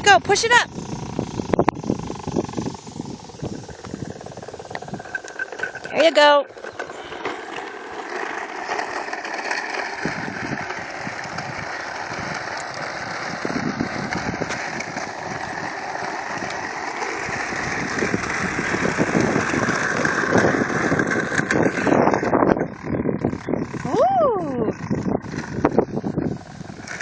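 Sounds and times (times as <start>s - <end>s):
toy mower whirring and rattling: 0.0s - 27.0s.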